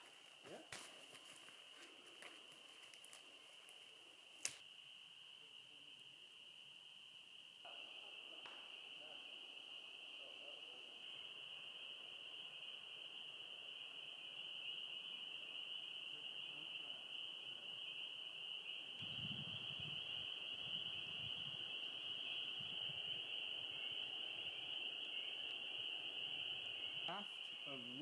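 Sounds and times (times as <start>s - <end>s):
spring peepers chorus: 1.6s - 28.0s.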